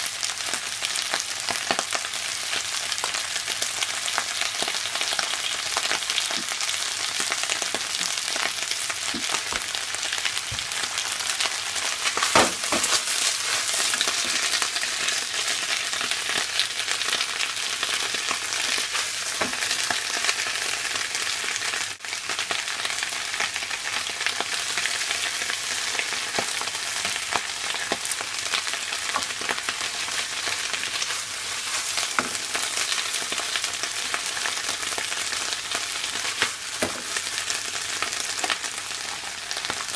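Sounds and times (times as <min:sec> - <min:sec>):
cabbage sizzling in a pan: 0:00.0 - 0:39.9.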